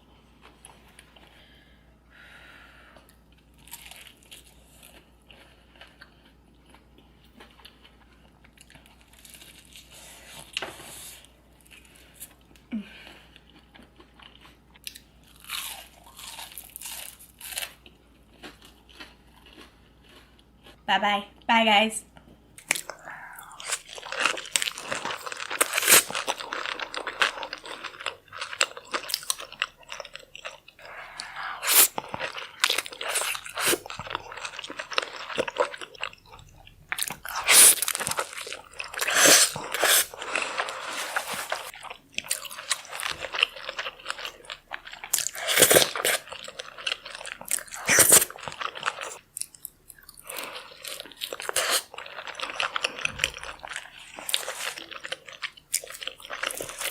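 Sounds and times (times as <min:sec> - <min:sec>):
crunching and chewing fried food: 0:00.1 - 0:01.6, 0:02.9 - 0:20.8, 0:22.3 - 0:56.9.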